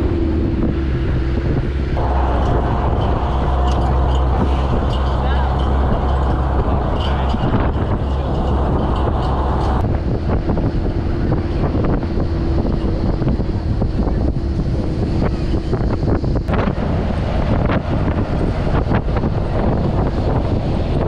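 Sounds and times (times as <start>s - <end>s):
steady hum: 0.0s - 21.0s
vehicle engine and road rumble: 0.0s - 21.0s
wind buffeting microphone: 0.0s - 21.0s.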